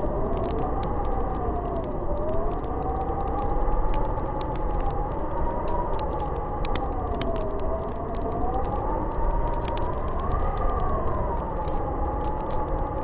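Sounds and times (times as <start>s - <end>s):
howling wind: 0.0s - 13.0s
sharp crackling ticks: 0.0s - 13.0s.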